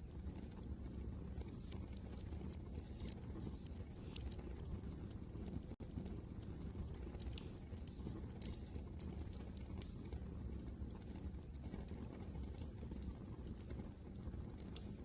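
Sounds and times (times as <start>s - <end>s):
low rumble of wind: 0.0s - 15.0s
wood fire crackling: 0.0s - 15.0s.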